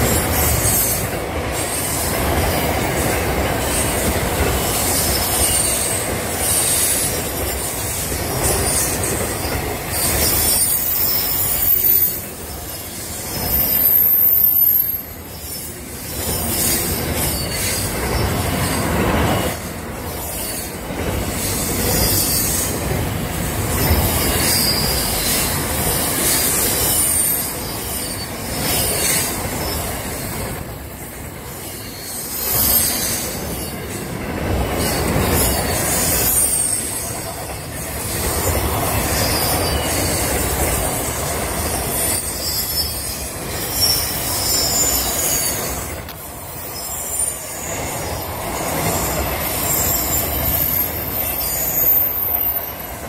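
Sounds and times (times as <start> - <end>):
freight train rumbling past: 0.0 - 53.0
wheels squealing on rails: 0.0 - 53.0.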